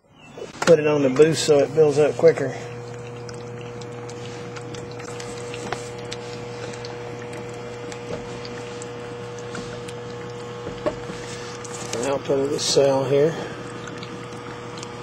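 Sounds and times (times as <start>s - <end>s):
power supply electrical hum: 0.0s - 15.0s
faint crackling fizz: 0.2s - 15.0s.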